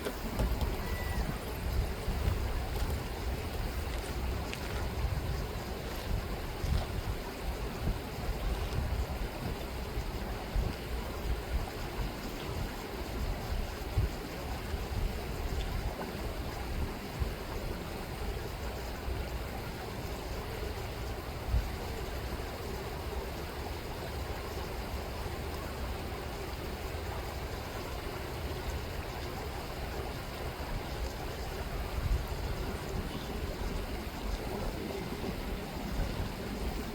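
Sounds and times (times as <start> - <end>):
river water rushing: 0.0 - 36.9.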